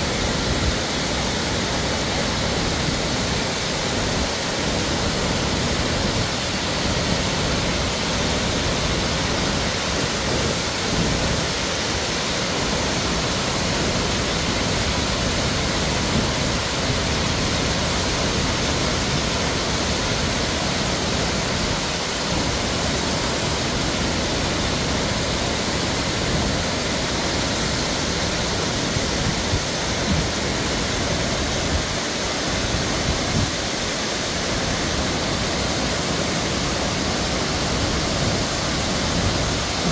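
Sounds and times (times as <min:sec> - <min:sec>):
water rushing over dam spillway: 0:00.0 - 0:39.9.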